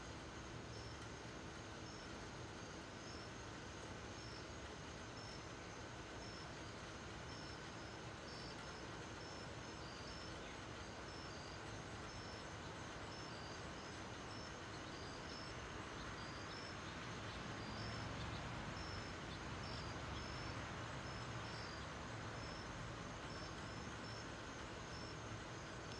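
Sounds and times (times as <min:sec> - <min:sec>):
insect chirps: 0:00.0 - 0:25.9.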